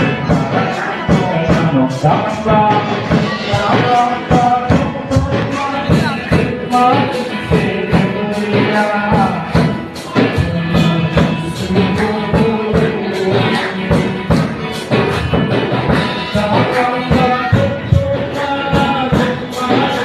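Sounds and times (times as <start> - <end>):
steady percussion beat: 0.0 - 20.0
voices singing gospel song: 0.0 - 20.0.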